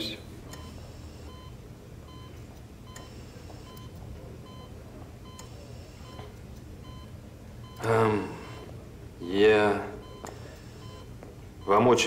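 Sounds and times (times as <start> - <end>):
patient monitor beeping: 0.0 - 12.0
steady low hum: 0.0 - 12.0.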